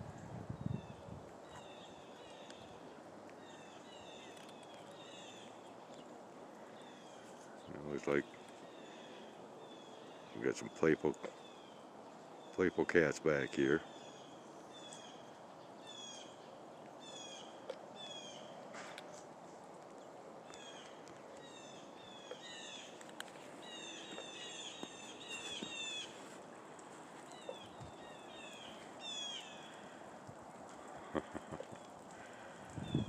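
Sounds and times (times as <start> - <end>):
outdoor background hiss: 0.0 - 33.0
small songbirds chirping: 0.2 - 19.2, 19.8 - 33.0.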